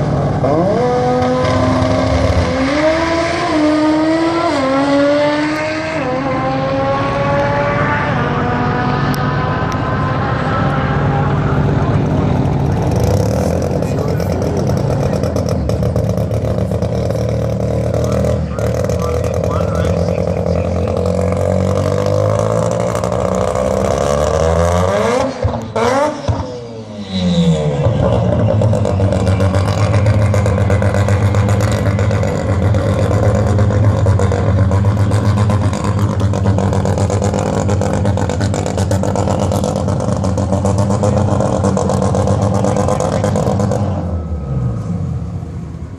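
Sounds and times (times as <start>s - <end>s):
drag racing car engine: 0.0s - 45.9s.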